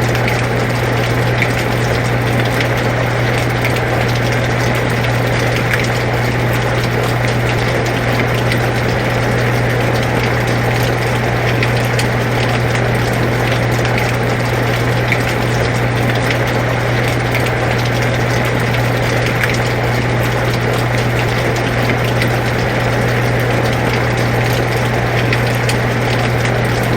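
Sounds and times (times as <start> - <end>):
air conditioner humming: 0.0 - 26.9.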